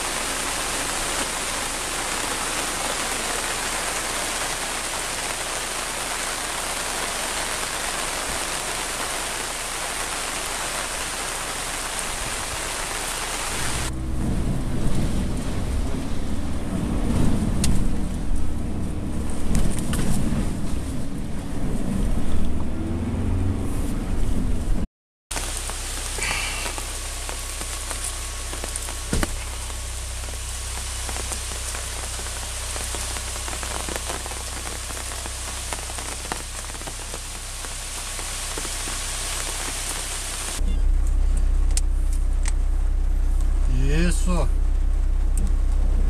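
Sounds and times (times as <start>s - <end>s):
rain falling: 0.0s - 23.5s, 24.2s - 46.0s
vehicle engine and tyre rumble: 0.0s - 46.0s.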